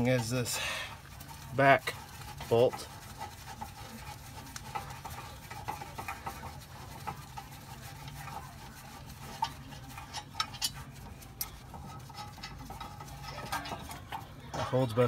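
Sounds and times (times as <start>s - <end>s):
wrench clicking and scraping on metal: 0.0s - 15.0s.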